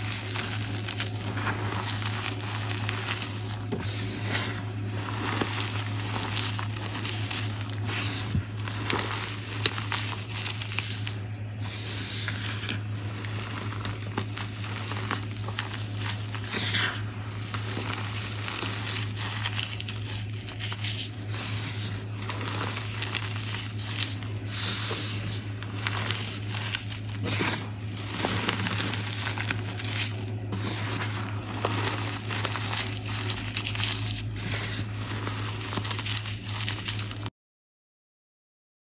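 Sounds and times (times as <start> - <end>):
powder crunching and crumbling: 0.0 - 37.3
powder pouring hiss: 0.0 - 37.3.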